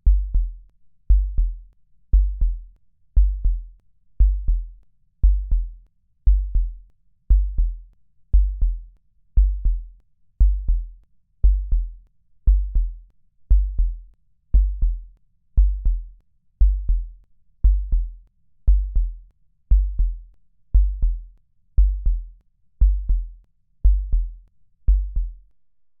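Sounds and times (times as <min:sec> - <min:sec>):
heartbeat thumps: 0:00.0 - 0:02.6, 0:03.2 - 0:05.7, 0:06.3 - 0:07.8, 0:08.4 - 0:08.8, 0:09.4 - 0:11.9, 0:12.5 - 0:14.0, 0:14.6 - 0:15.0, 0:15.6 - 0:25.4.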